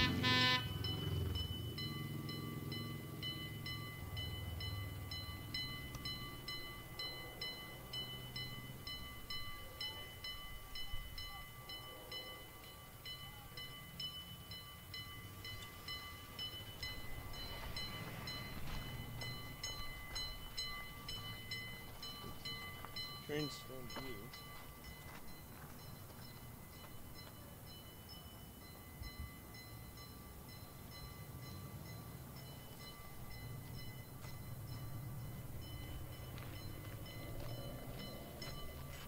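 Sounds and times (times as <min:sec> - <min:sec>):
bell ringing faintly: 0:00.0 - 0:39.0.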